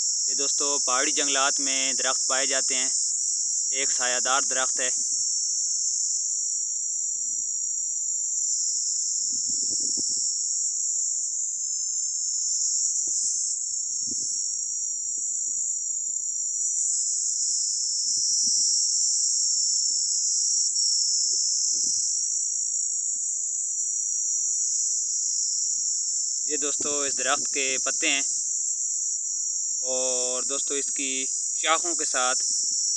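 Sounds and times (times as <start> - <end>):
insect chorus shrilling: 0.0 - 32.9.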